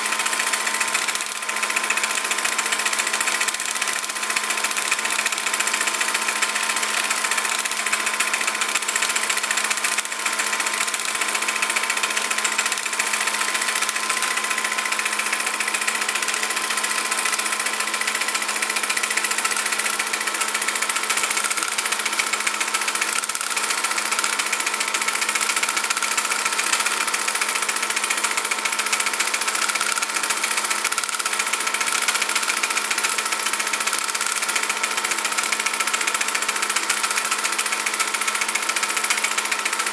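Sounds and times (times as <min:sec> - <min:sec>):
small motor whirring: 0:00.0 - 0:39.9.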